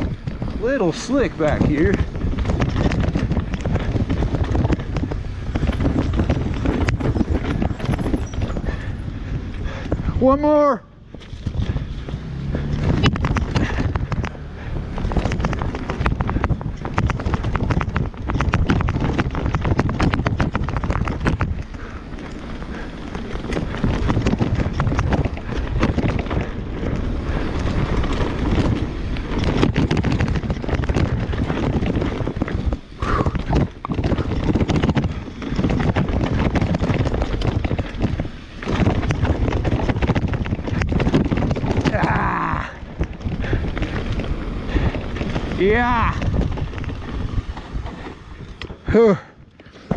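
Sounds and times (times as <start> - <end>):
wind on microphone: 0.0 - 48.8
bike rattling over rocks: 0.0 - 49.9
tyre noise: 0.0 - 49.9.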